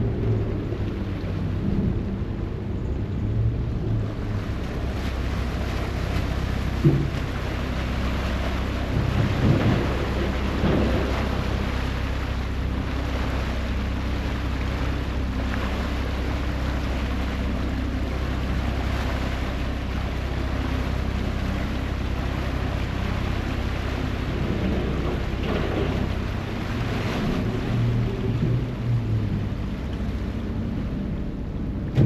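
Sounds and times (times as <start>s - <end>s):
ferry engine drone: 0.0s - 32.0s
low rumbles: 0.0s - 32.0s
wind on microphone: 0.0s - 32.0s
propeller wash rushing: 4.0s - 32.0s.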